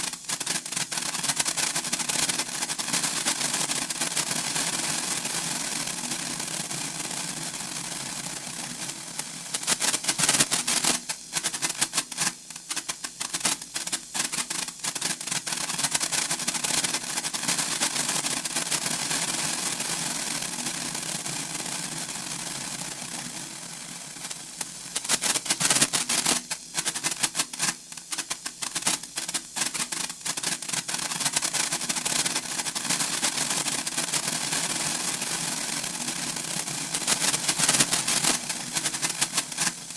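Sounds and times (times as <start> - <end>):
sparkler fizzing and crackling: 0.0 - 39.9.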